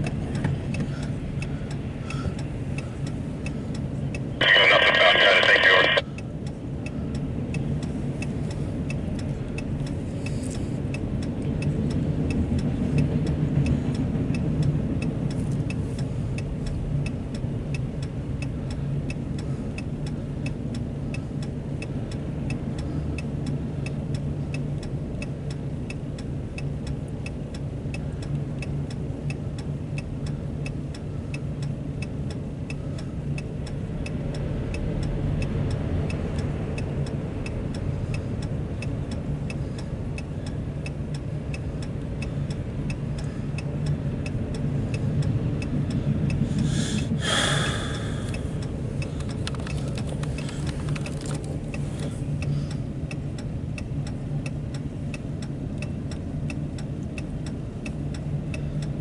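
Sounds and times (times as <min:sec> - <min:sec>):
faint ticking: 0:00.0 - 0:59.0.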